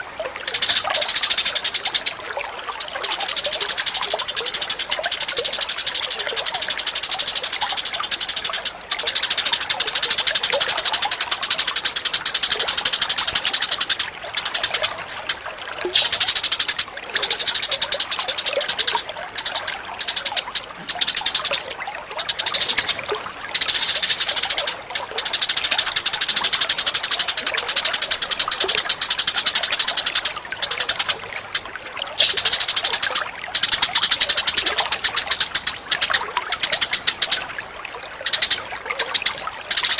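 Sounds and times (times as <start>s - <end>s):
rapid high-pitched clicking trill: 0.0s - 37.5s, 38.2s - 39.9s.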